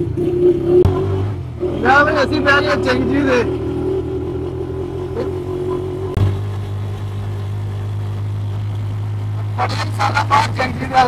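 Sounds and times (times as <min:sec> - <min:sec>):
small engine droning: 0:00.0 - 0:11.0.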